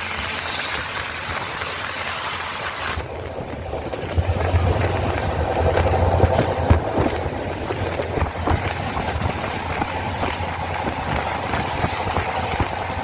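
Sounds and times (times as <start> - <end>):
train wheels rumbling on rail: 0.0 - 13.0
wind rushing past microphone: 0.0 - 13.0.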